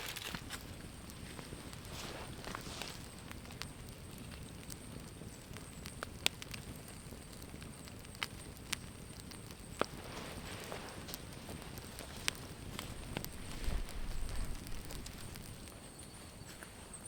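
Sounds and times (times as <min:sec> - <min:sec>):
campfire crackling: 0:00.0 - 0:17.0
fire popping: 0:00.0 - 0:17.0.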